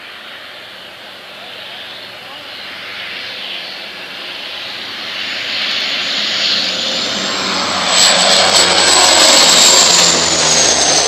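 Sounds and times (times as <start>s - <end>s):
aircraft engines overhead: 0.0s - 11.0s.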